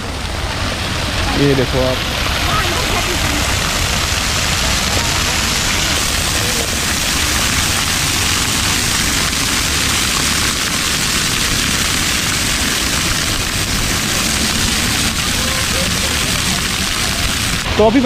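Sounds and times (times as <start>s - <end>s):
fountain splashing on paving: 0.0s - 18.0s.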